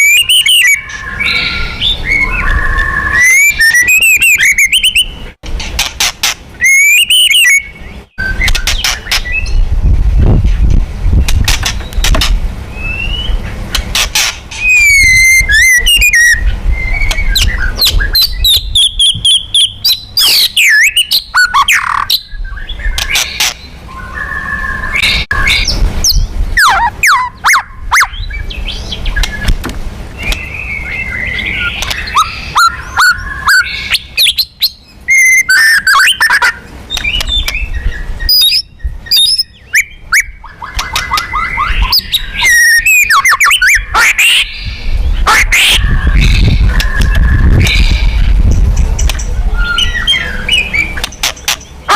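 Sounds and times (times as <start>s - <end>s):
bird singing varied song: 0.0s - 5.4s, 6.5s - 9.8s, 10.5s - 51.9s.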